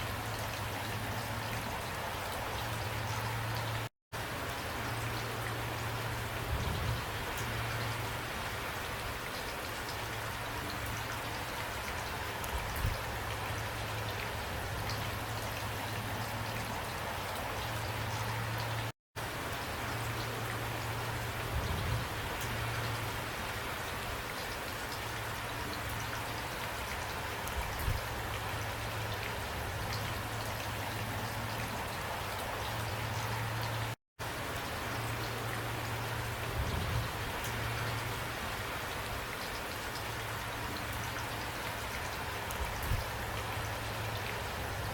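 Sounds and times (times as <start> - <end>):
heavy rain: 0.0 - 44.9
raindrops ticking on a surface: 0.0 - 44.9.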